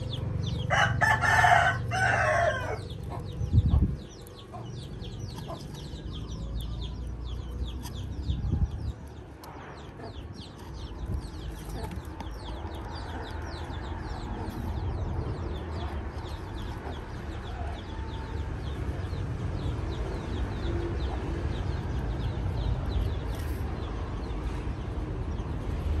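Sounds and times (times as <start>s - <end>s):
steady low rumble: 0.0s - 26.0s
bird chirping: 1.6s - 24.6s.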